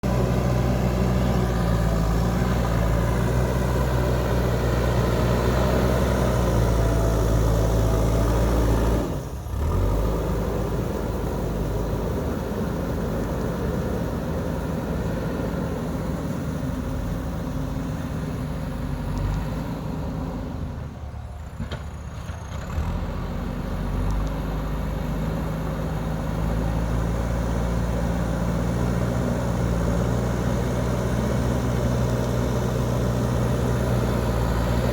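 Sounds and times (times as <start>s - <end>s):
backhoe diesel engine humming: 0.0s - 34.9s.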